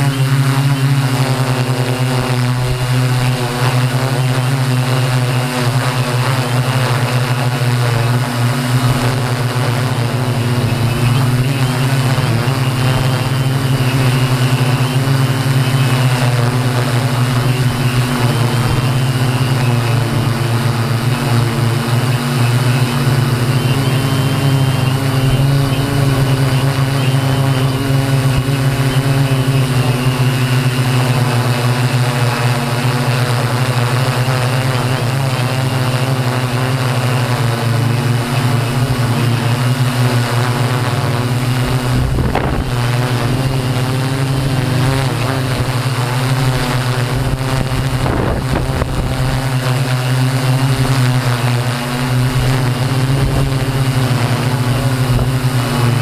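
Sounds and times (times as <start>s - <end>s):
drone motors and propellers humming: 0.0s - 56.0s.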